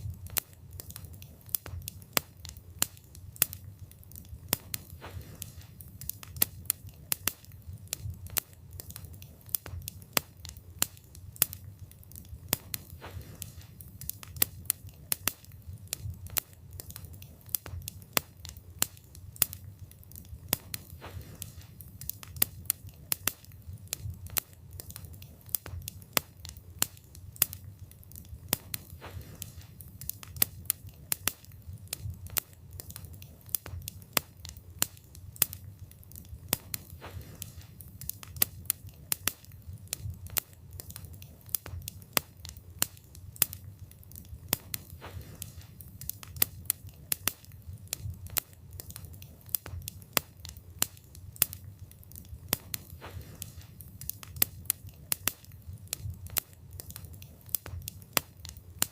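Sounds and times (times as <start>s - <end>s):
burning wood crackling and popping: 0.0s - 58.9s
fire flames rumbling: 0.0s - 58.9s.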